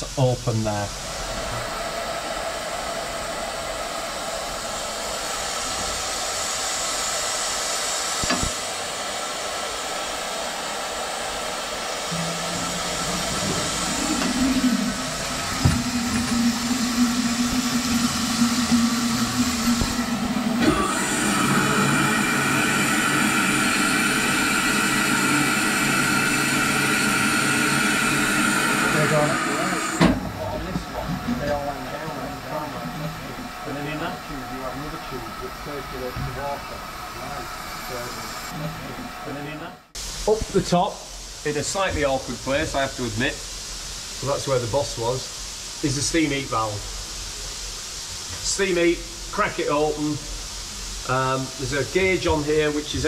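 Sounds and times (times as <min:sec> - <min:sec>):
steam hissing with faint whistling: 0:00.0 - 0:53.0.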